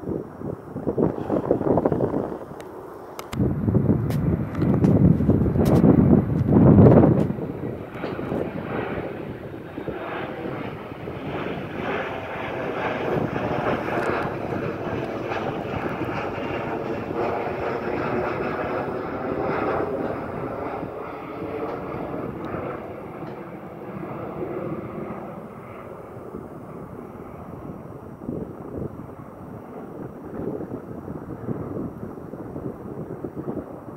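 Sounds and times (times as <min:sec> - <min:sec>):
jet engines roaring: 0:00.0 - 0:33.9
wind rumble on microphone: 0:00.0 - 0:33.9.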